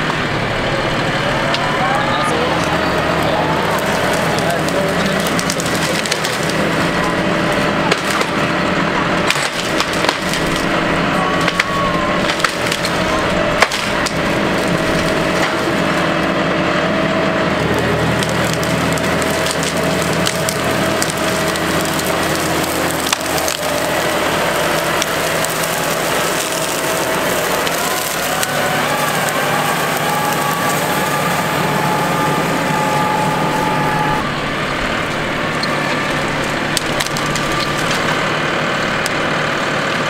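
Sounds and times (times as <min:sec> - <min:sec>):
deep engine drone: 0:00.0 - 0:40.0
tractor diesel engine running: 0:00.0 - 0:40.0
grapple crushing and dragging brush: 0:02.4 - 0:08.5, 0:09.2 - 0:16.3, 0:17.7 - 0:39.2
branches cracking and snapping: 0:02.4 - 0:39.9.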